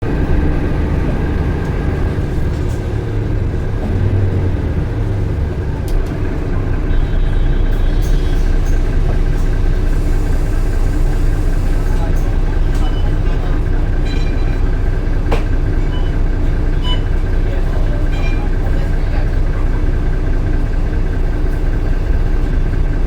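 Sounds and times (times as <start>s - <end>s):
bus engine rumbling: 0.0s - 23.0s.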